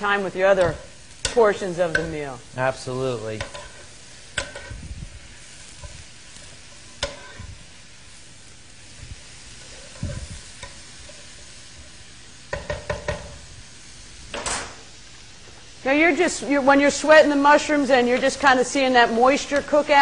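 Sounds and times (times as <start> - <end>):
mushrooms sizzling in oil: 0.0 - 20.0.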